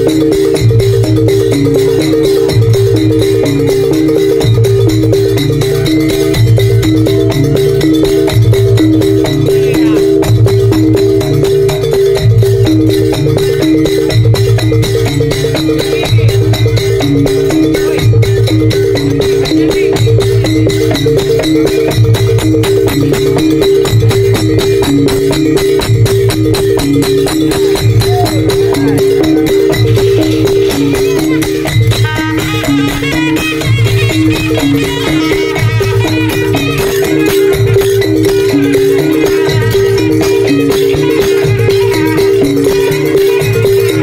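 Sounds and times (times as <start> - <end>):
pitched percussion pattern: 0.0 - 44.0.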